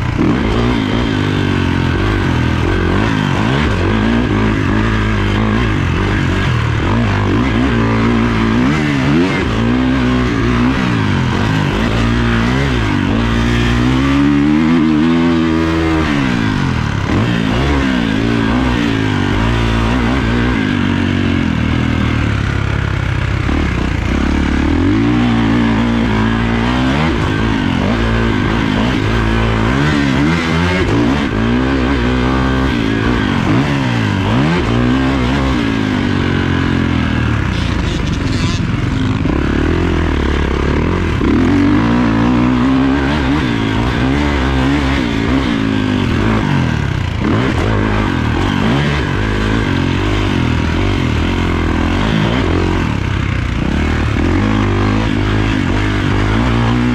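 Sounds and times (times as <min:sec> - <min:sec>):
motocross bike engine revving: 0:00.0 - 0:56.9.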